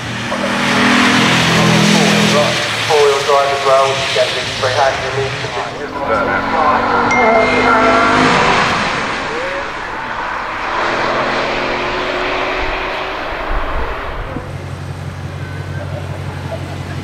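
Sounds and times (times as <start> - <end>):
car pulling away: 0.0 - 17.0
low engine burble: 0.0 - 17.0.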